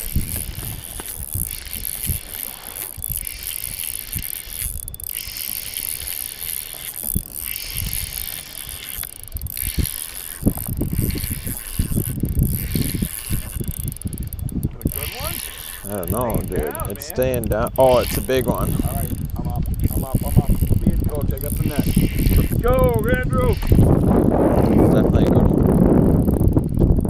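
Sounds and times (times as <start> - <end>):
fishing reel whirring: 0.0 - 27.0.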